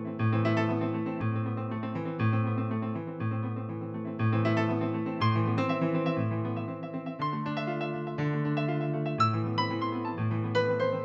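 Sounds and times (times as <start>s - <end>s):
piano-like keyboard chords: 0.0s - 11.0s.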